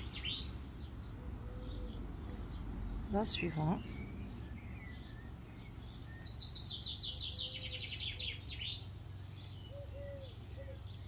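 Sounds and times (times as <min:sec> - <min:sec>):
songbird singing a falling trill: 0:00.0 - 0:11.0.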